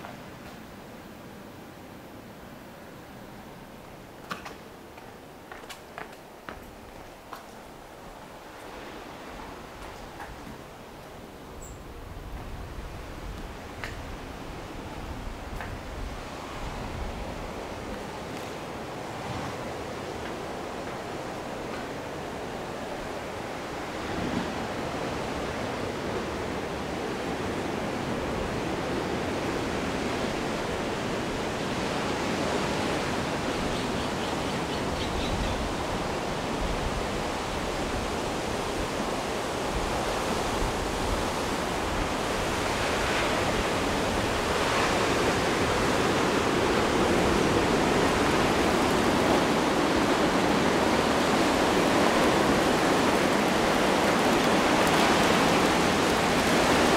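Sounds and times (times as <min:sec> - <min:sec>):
ocean surf washing onto beach: 0:00.0 - 0:56.9.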